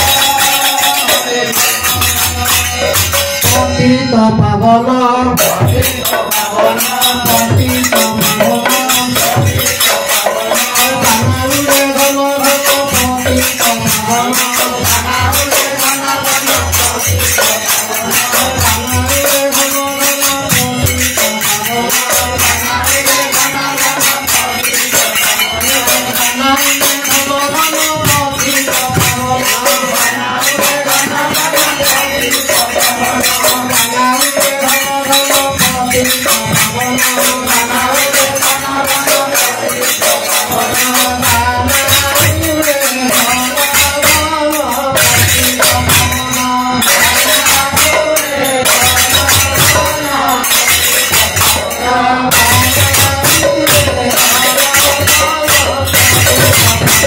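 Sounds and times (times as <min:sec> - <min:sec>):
barrel drum: 0:00.0 - 0:57.0
group singing: 0:00.0 - 0:57.0
jingling hand percussion: 0:00.0 - 0:57.0.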